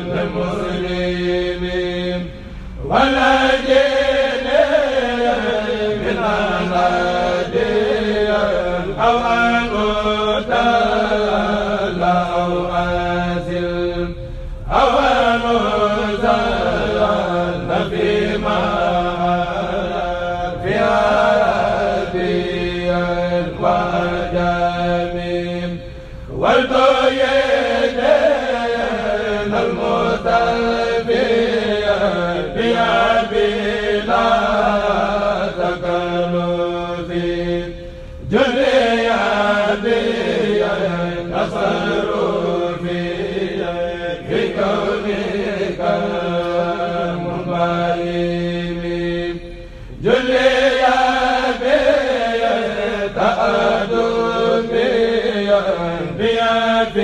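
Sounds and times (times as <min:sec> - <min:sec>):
voices chanting into a microphone: 0:00.0 - 0:57.0.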